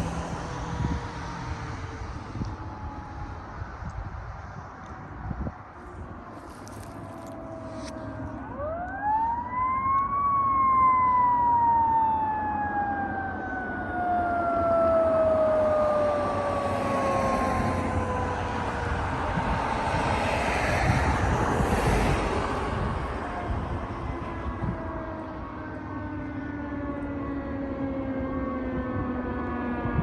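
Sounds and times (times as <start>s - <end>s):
heavy truck engine and road noise: 0.0s - 30.0s.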